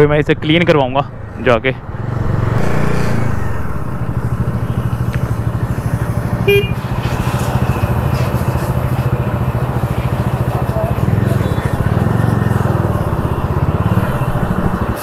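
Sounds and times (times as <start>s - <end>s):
motorcycle engine running: 1.9s - 15.0s.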